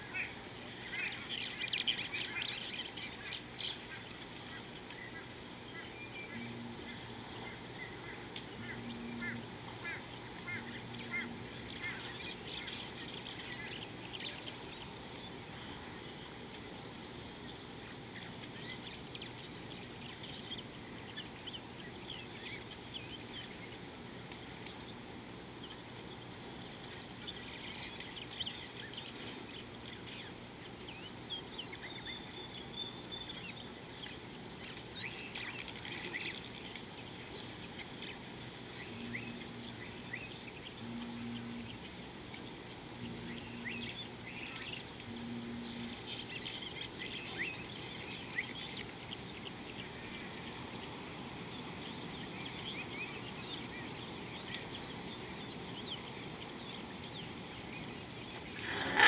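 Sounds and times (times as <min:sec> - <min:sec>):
outdoor background noise: 0:00.0 - 0:59.0
wild birds chirping: 0:00.0 - 0:59.0.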